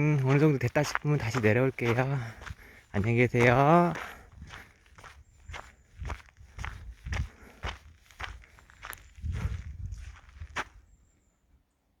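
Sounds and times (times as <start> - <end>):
footsteps on outdoor path: 0.0 - 11.0.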